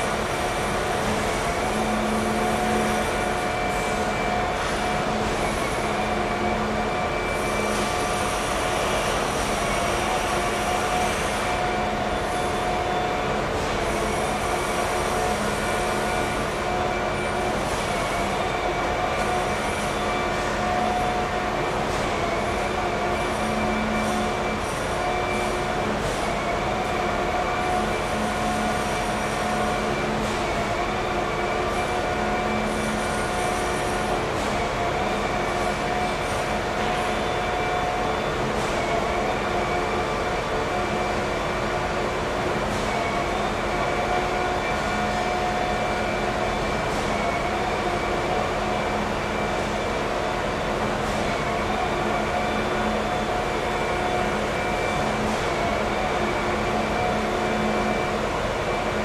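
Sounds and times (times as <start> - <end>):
mid-pitched whine: 0.0 - 59.0.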